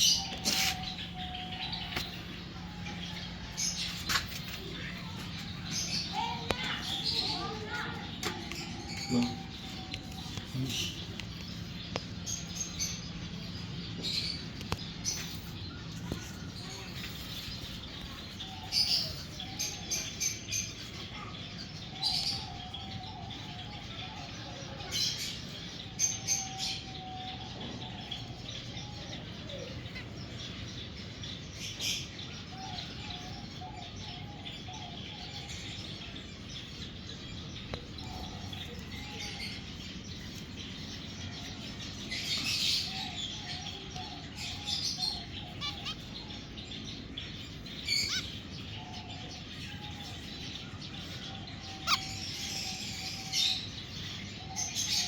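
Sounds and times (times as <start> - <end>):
finches chirping: 0.0 - 55.0.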